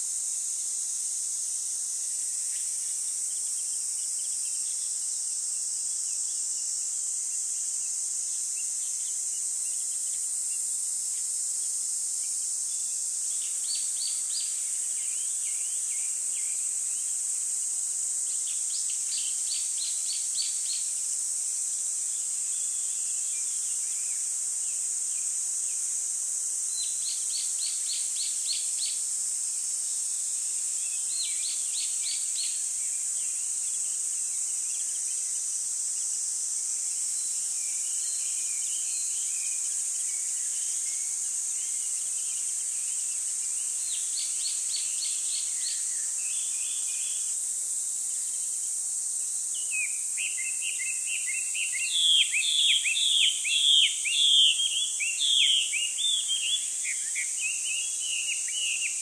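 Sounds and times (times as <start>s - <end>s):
high-pitched hiss: 0.0s - 59.0s.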